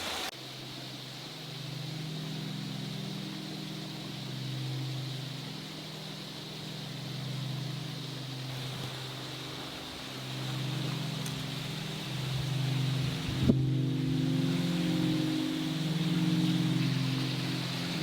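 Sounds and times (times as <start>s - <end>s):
low engine drone: 0.4s - 18.0s.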